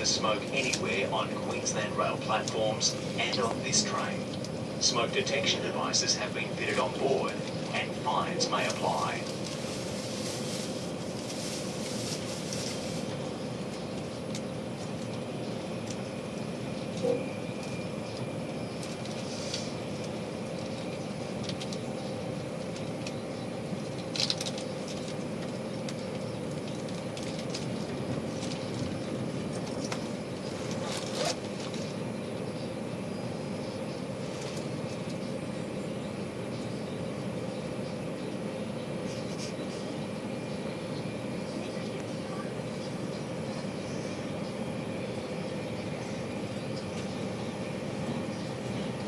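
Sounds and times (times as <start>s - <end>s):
train carriage running rumble: 0.0s - 49.0s.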